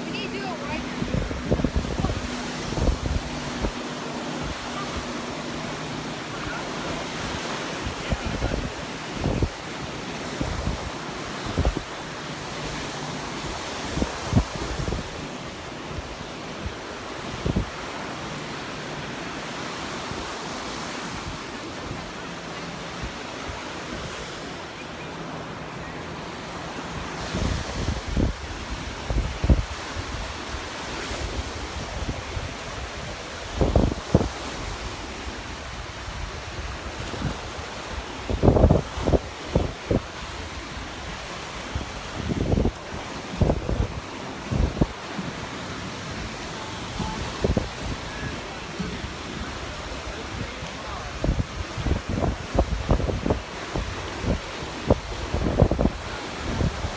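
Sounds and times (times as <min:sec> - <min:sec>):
wind buffeting microphone: 0:00.0 - 0:22.2, 0:26.6 - 0:56.9
surf washing onto beach: 0:00.0 - 0:56.9.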